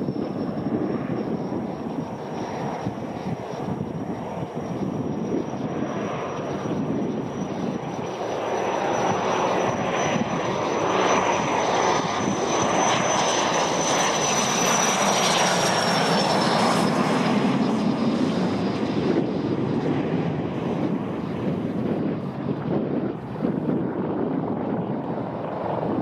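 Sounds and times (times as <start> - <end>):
jet engines whining: 0.0 - 26.0.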